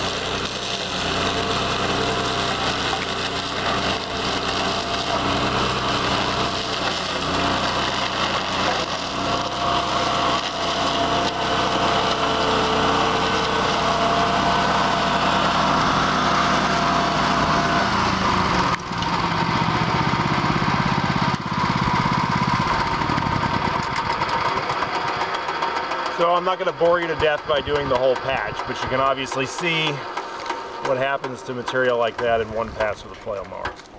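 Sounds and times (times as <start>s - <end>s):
flail mower chopping cornstalks: 0.0s - 33.9s
gas engine running under load: 0.0s - 33.9s.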